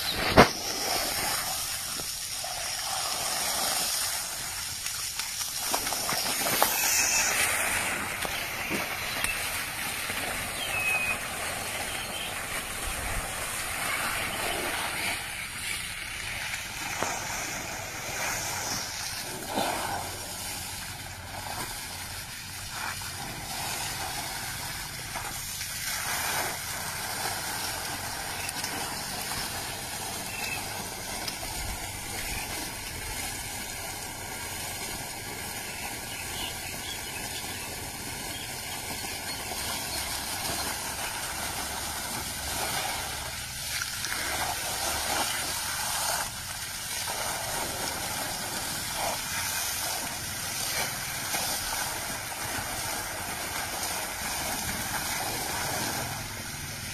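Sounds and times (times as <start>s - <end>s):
water jetting from pipe: 0.0s - 56.9s
water splashes: 0.0s - 56.9s.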